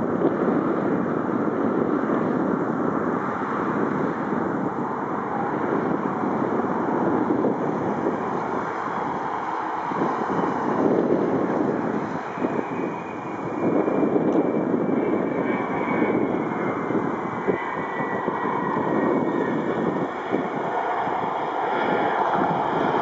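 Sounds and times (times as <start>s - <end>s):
jet engines rushing: 0.0s - 23.0s
wind on microphone: 0.0s - 23.0s.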